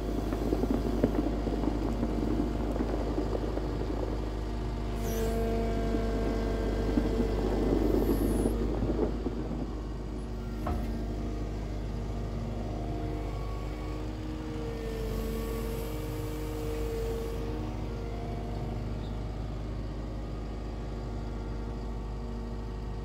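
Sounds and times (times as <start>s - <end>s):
hydraulic whining tone: 0.0s - 22.8s
diesel engine running: 0.0s - 23.0s.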